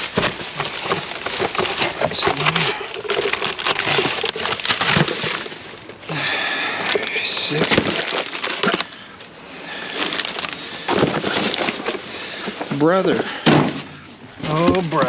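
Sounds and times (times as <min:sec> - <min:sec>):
rummaging through junk: 0:00.0 - 0:15.0.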